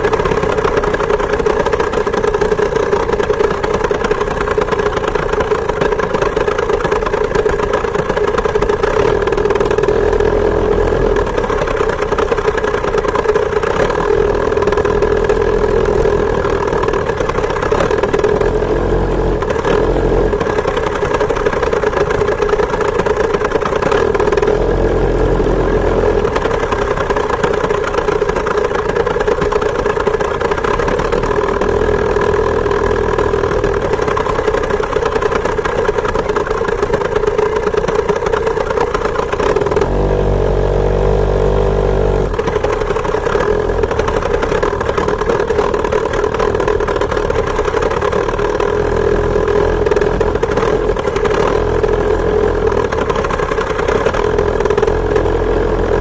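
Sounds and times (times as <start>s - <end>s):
two-stroke moped engine running: 0.0s - 56.0s.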